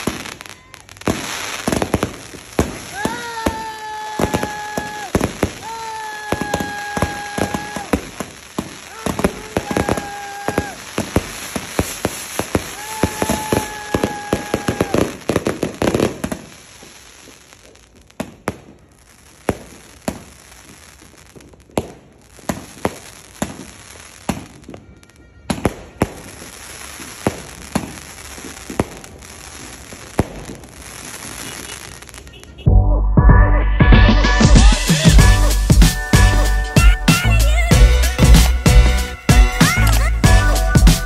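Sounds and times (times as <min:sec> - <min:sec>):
fireworks cake bangs and crackling: 0:00.0 - 0:32.6, 0:34.5 - 0:41.0.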